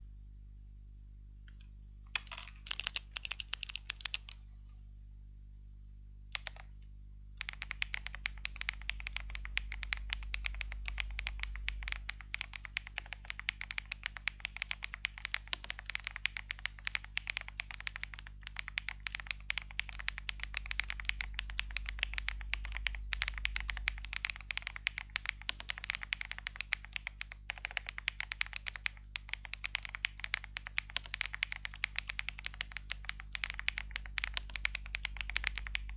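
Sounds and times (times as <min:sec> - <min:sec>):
mechanical keyboard typing: 0:02.2 - 0:04.4, 0:06.3 - 0:06.7, 0:07.4 - 0:35.9.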